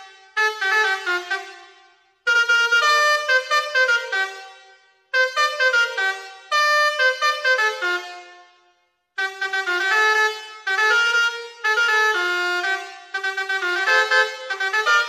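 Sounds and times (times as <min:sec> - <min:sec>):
multi-tone horn playing a tune: 0:00.0 - 0:15.0.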